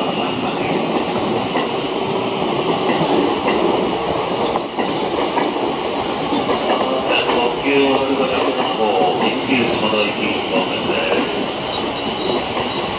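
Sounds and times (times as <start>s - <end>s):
electric train passing: 0.0s - 12.9s
wheels clacking over rail joints: 2.4s - 12.9s.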